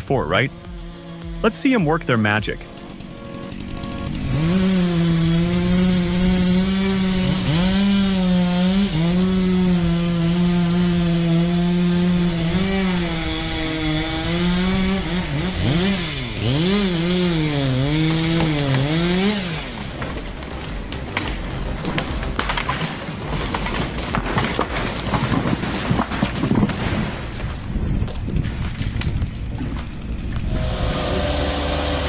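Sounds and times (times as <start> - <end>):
chainsaw cutting wood: 0.2 - 32.0.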